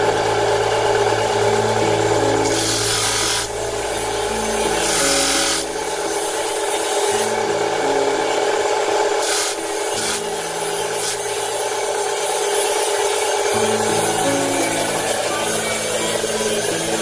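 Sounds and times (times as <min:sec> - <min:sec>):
industrial machine humming: 0:00.0 - 0:17.0
low machine tone: 0:00.0 - 0:17.0.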